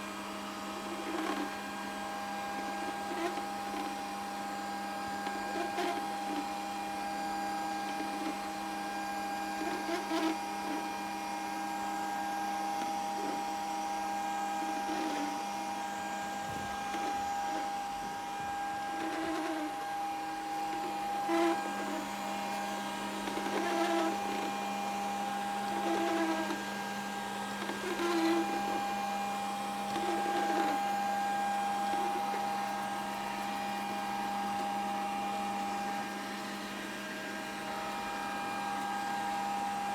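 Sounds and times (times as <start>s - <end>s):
robot vacuum motor hum: 0.0s - 39.9s.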